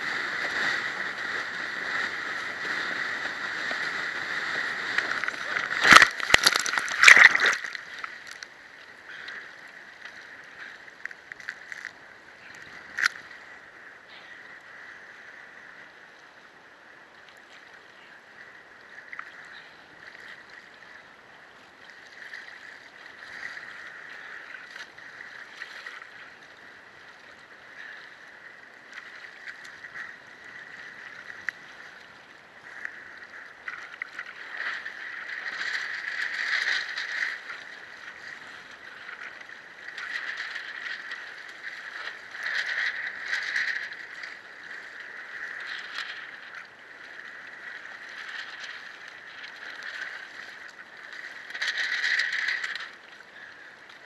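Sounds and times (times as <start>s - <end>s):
water splashing and sloshing: 0.0s - 13.8s, 17.1s - 54.0s.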